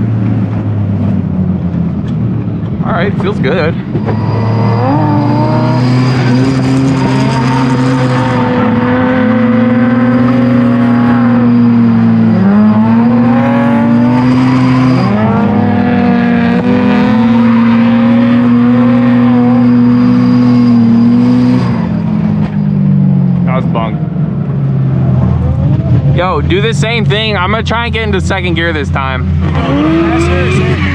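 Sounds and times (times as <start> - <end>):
rotary engine at high revs: 3.0 - 24.0, 25.7 - 30.9.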